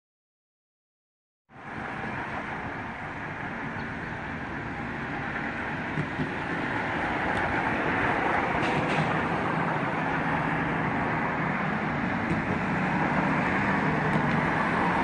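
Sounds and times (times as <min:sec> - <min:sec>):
engine and traffic rumble: 0:01.5 - 0:15.0.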